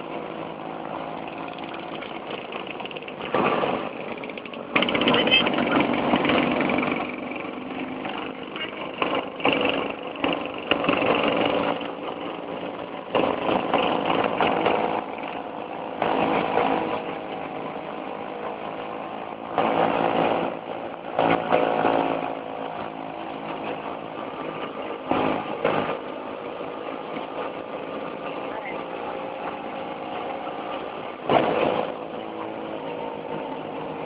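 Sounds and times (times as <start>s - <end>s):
two-stroke scooter engines: 0.0s - 34.0s.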